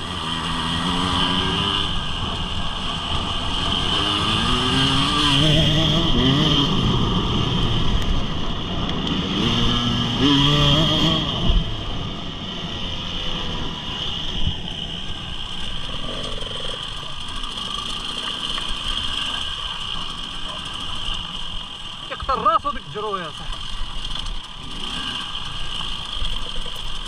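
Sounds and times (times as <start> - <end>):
motorcycle engine revving: 0.0 - 22.6, 23.2 - 27.0.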